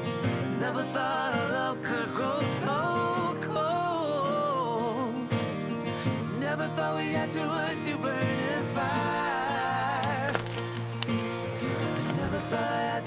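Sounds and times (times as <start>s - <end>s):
country song with acoustic guitar: 0.0s - 13.0s.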